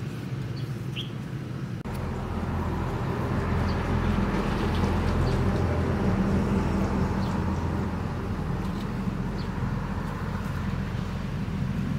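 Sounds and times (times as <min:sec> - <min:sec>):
engine humming: 0:00.0 - 0:11.9.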